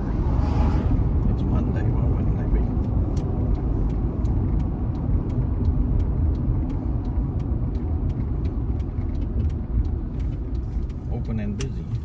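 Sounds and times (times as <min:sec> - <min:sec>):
road and engine rumble: 0:00.0 - 0:12.0
turn signal clicking: 0:02.3 - 0:12.0.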